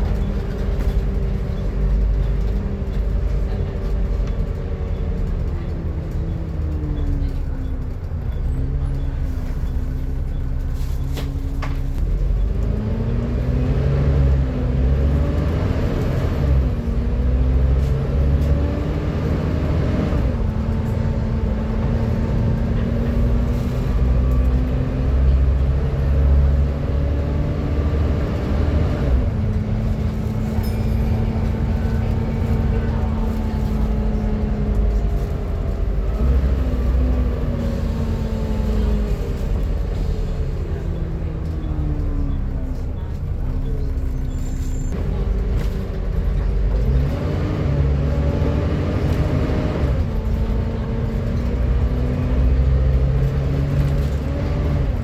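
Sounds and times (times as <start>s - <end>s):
bus engine whining: 0.0s - 55.0s.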